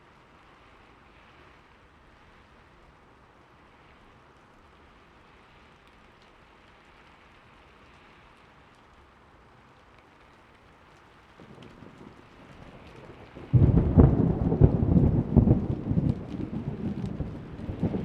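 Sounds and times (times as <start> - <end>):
faint rain falling: 0.0 - 18.0.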